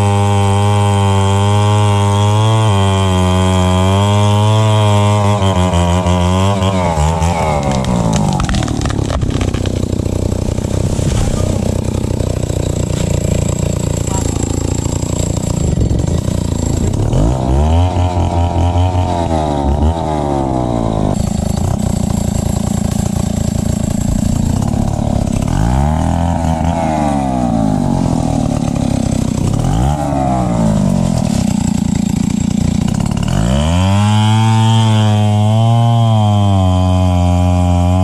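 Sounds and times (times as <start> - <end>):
chainsaw revving: 0.0 - 38.0.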